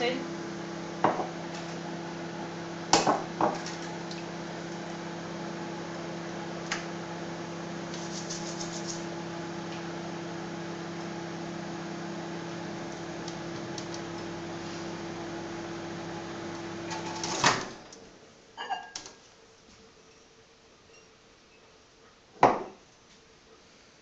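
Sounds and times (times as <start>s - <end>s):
microwave oven humming: 0.0s - 19.3s.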